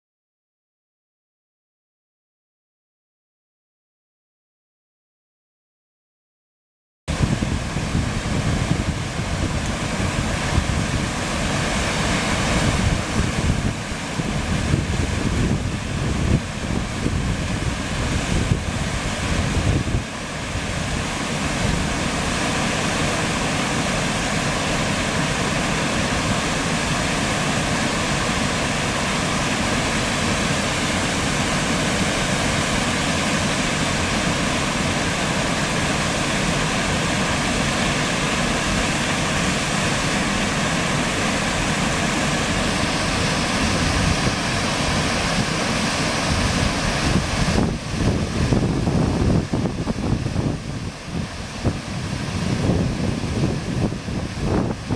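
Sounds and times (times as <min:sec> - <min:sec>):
wind buffeting microphone: 0:07.1 - 0:37.1, 0:40.8 - 0:54.9
waterfall rushing: 0:07.1 - 0:54.9.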